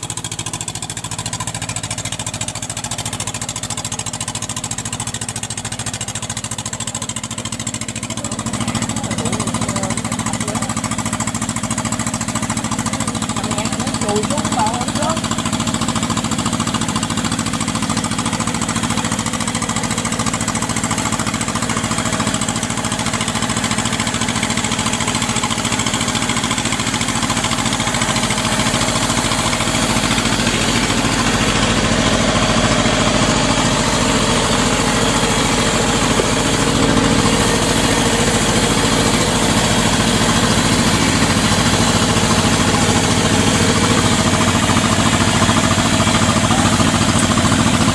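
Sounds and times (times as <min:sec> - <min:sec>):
engine running with fast beat: 0:00.0 - 0:47.9.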